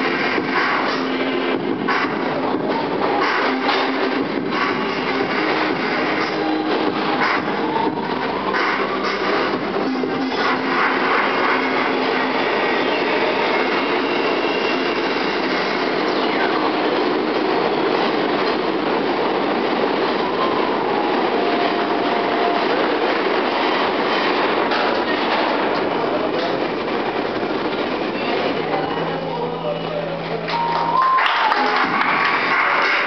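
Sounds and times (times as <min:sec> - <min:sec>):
subway train clattering on rails: 0:00.0 - 0:33.0.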